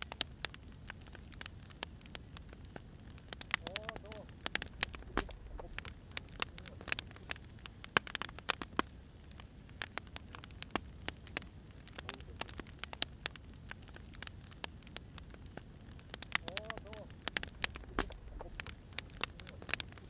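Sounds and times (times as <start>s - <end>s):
firewood crackling and popping: 0.0s - 20.0s
low rush of flame: 0.0s - 20.0s.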